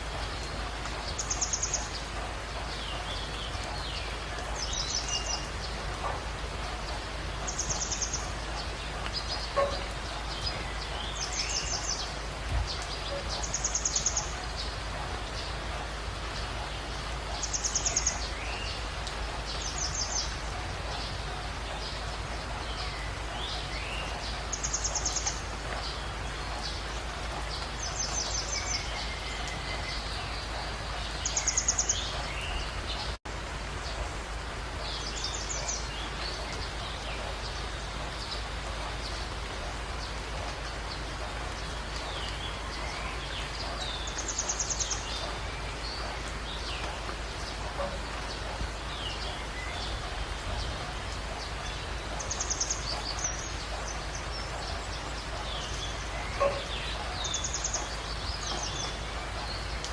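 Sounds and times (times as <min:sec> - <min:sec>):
background hiss: 0:00.0 - 0:59.9.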